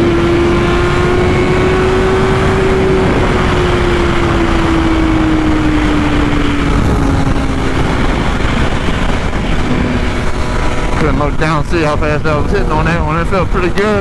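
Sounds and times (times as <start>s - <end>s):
motorcycle engine at high revs: 0.0s - 14.0s
wind noise rushing: 0.0s - 14.0s.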